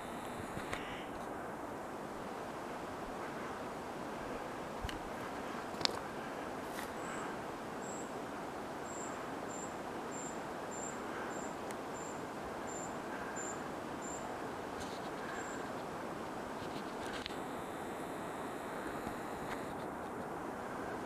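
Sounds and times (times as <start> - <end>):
rushing background noise: 0.0 - 21.0.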